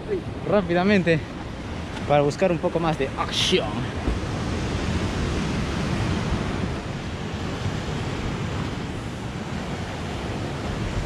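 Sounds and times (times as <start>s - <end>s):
wind buffeting microphone: 0.0s - 11.0s
surf breaking on rocky shore: 0.2s - 11.0s.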